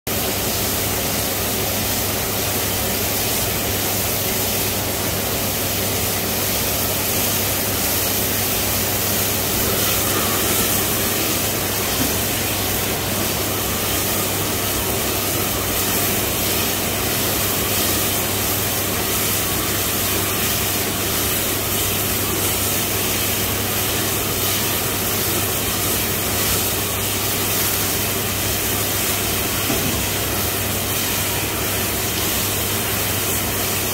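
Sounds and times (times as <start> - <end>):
gas burner rushing: 0.1 - 33.9.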